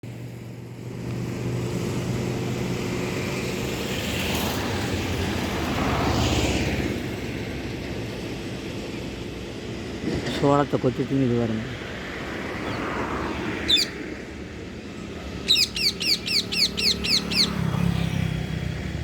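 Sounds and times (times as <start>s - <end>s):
steady engine hum: 0.0s - 19.0s
vehicle passing: 0.1s - 8.3s, 11.0s - 19.0s.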